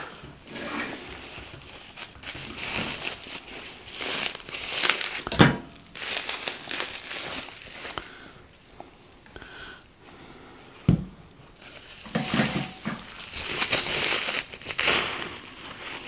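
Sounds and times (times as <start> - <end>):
bubble wrap crinkling: 0.0 - 9.2, 11.4 - 16.0.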